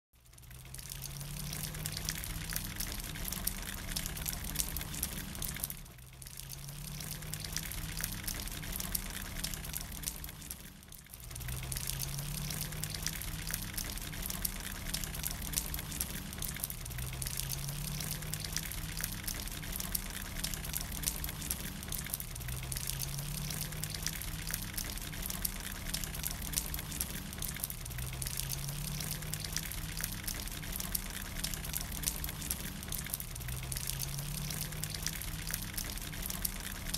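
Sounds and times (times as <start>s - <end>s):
rain pattering on patio: 0.2s - 36.9s.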